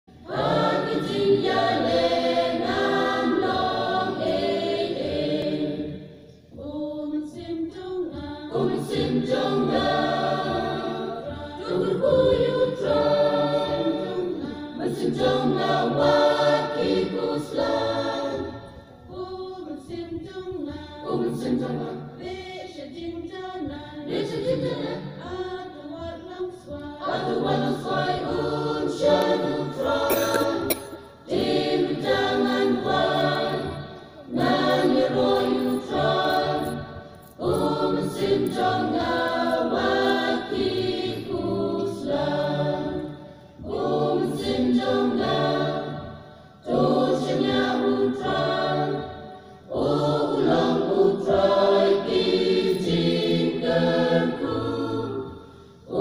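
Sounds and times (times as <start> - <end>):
choir singing: 0.1 - 56.0.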